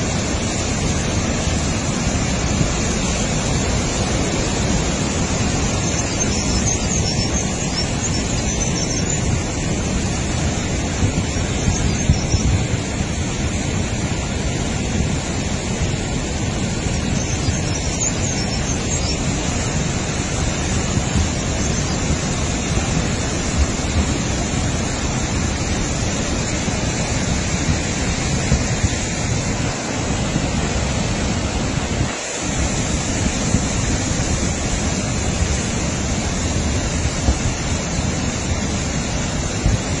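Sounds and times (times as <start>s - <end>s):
stream rushing over boulders: 0.0s - 40.0s.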